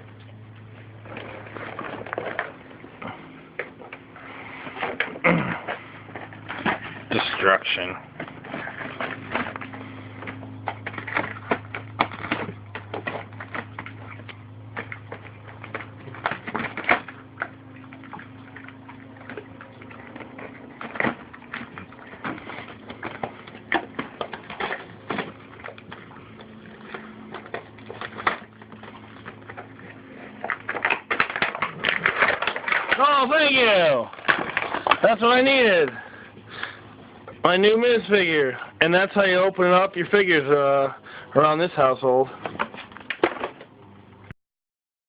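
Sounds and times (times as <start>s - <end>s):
steady low hum: 0.0s - 44.3s
dog chewing packaging: 0.6s - 40.4s.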